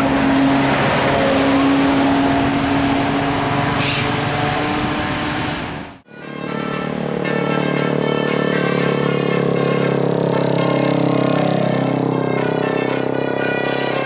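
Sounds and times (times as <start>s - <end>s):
road noise: 0.0s - 14.0s
vehicle engine drone: 0.0s - 14.0s.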